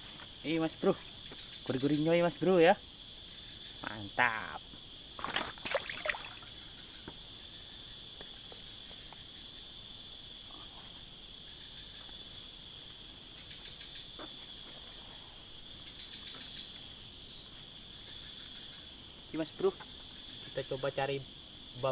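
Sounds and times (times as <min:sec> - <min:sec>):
insects shrilling: 0:00.0 - 0:21.9.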